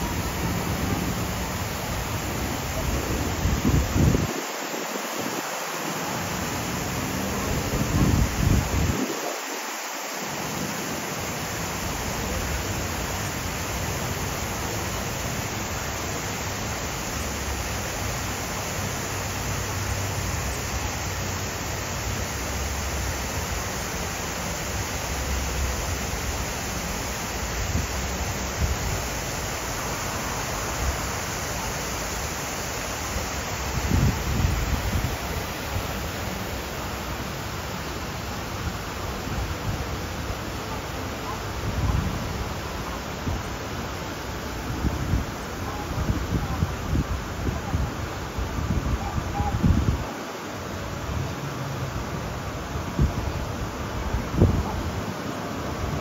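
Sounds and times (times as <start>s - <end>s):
steady rushing noise: 0.0s - 47.8s.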